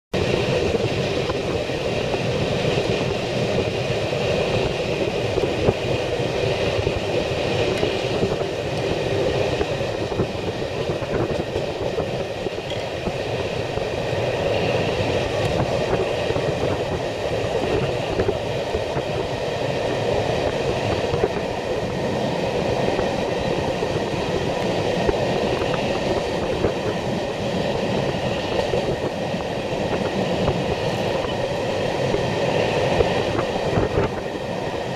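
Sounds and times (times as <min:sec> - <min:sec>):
train wheels rumbling on rails: 0:00.1 - 0:34.9.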